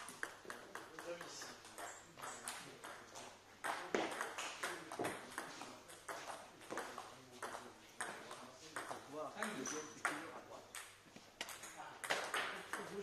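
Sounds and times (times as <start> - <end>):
faint table tennis clicks: 0.0 - 13.0.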